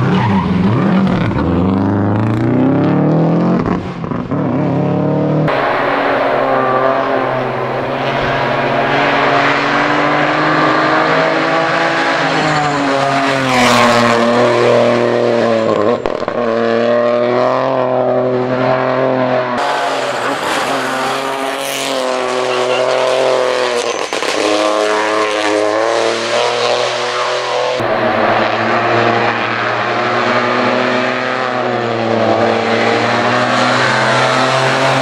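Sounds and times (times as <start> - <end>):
rally car engine at high revs: 0.0 - 35.0.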